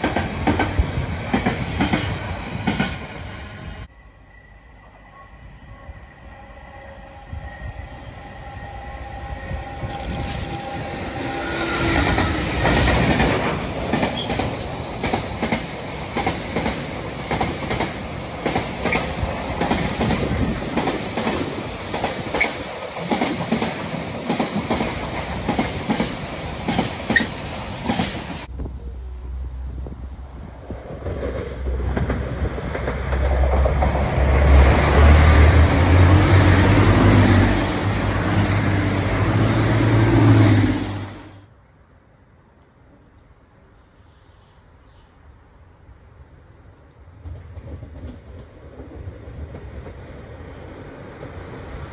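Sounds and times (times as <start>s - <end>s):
diesel locomotive passing: 0.0s - 41.7s
passing train: 0.0s - 51.9s.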